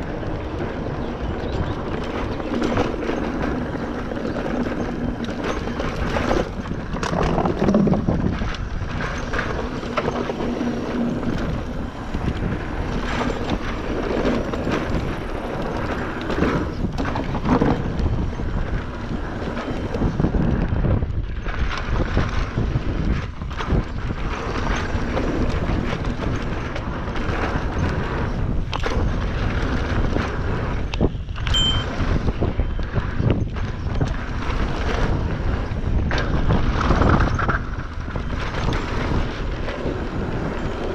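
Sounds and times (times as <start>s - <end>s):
rumble and rattle of riding: 0.0s - 40.9s
wind buffeting microphone: 0.0s - 40.9s.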